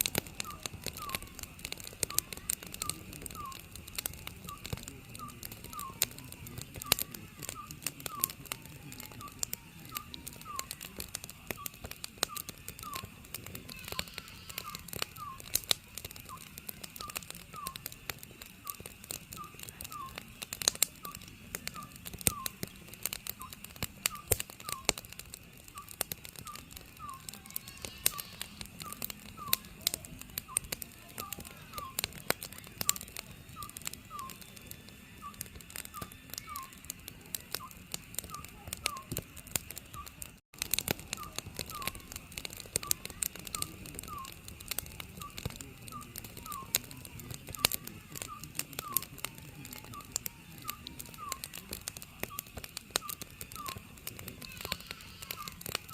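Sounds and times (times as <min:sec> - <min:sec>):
owl whistled calls: 0:00.0 - 0:18.0, 0:18.6 - 0:20.2, 0:21.0 - 0:25.1, 0:25.8 - 0:32.2, 0:32.8 - 0:36.9, 0:37.5 - 0:39.1, 0:41.0 - 0:49.2, 0:49.8 - 0:55.9
wood fire crackling: 0:00.0 - 0:55.9.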